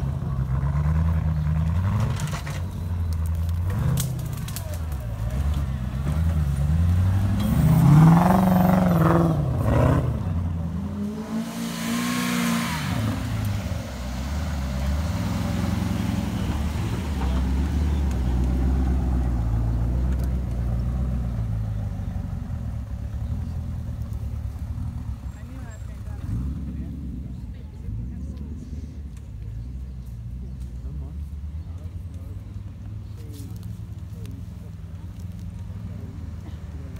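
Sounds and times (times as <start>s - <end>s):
off-road vehicle engines revving: 0.0s - 36.9s.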